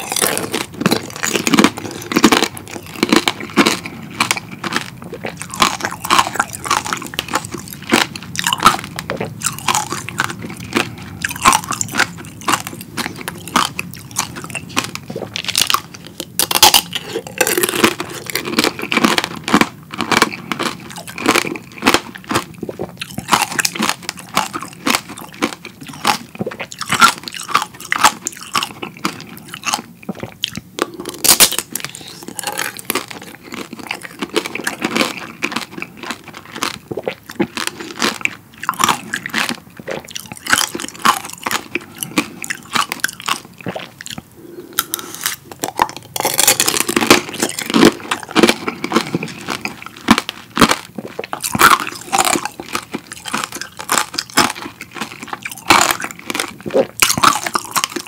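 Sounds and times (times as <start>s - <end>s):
crunching candied sugar shell: 0.0s - 29.9s, 30.5s - 43.5s, 44.8s - 58.0s.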